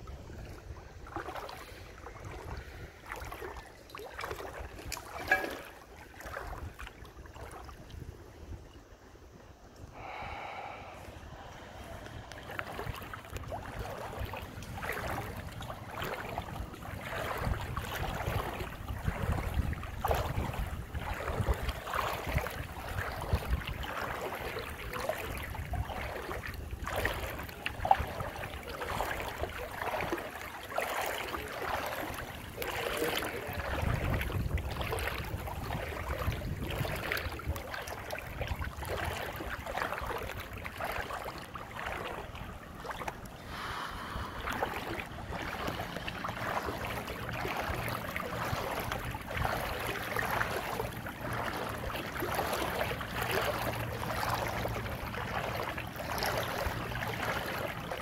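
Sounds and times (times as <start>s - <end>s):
water splashing with wading steps: 0.0s - 58.0s
wind rumble on microphone: 0.0s - 58.0s.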